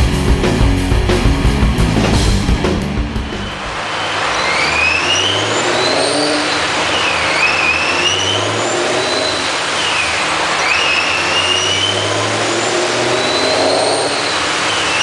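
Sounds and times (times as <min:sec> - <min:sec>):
car engine whine on dynamometer: 0:02.8 - 0:15.0.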